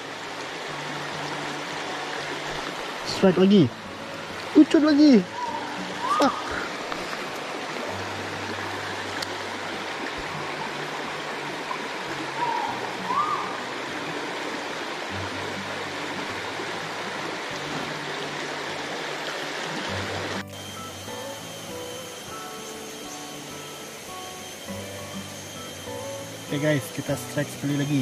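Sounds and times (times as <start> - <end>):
stream rushing over rocks: 0.0 - 28.0.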